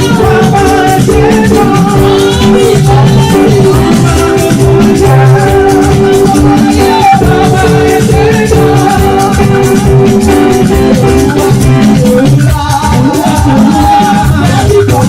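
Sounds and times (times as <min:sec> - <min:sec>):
drums and shakers beat: 0:00.0 - 0:15.0
held keyboard tones: 0:00.0 - 0:15.0
person singing: 0:00.0 - 0:15.0.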